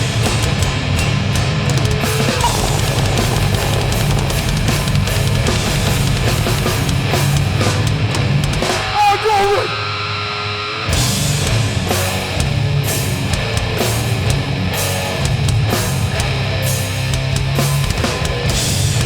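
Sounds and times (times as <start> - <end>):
heavy band playing live: 0.0 - 19.0.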